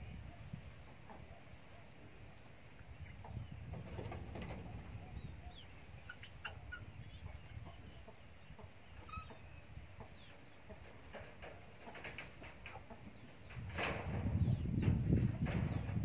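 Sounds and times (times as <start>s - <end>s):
chickens clucking: 0.2s - 16.0s.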